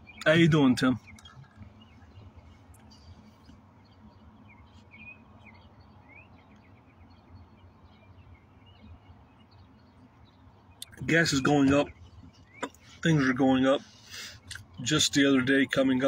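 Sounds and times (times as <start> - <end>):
faint bird chirps: 0.0 - 16.0
low steady hum: 0.0 - 16.0.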